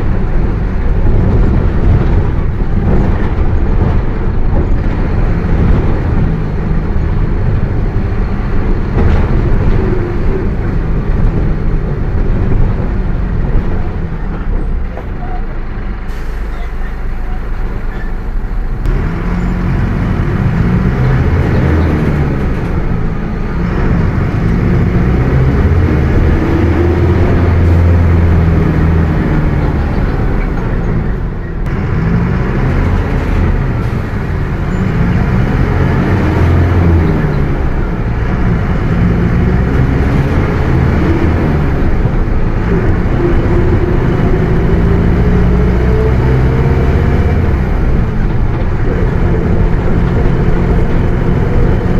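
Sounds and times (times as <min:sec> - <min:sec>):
bus diesel engine: 0:00.0 - 0:51.9.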